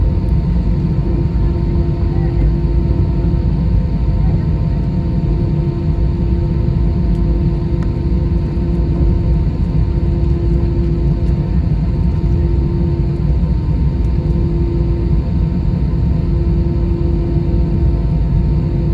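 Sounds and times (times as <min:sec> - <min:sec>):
jet engines running: 0:00.0 - 0:18.9.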